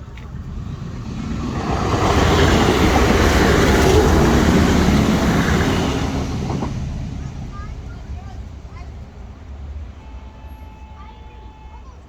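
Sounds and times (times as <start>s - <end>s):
train passing close by: 0.0s - 12.0s.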